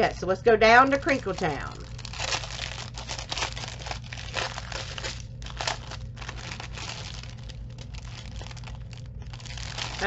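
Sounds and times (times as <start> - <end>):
plastic packaging crinkling: 0.8 - 10.0.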